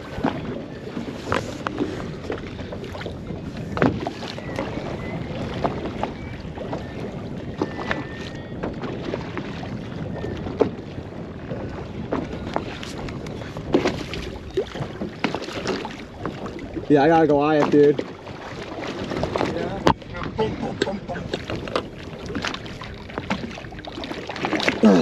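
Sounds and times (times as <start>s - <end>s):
water sloshing against boat hull: 0.0s - 25.0s
wind buffeting microphone: 0.0s - 25.0s.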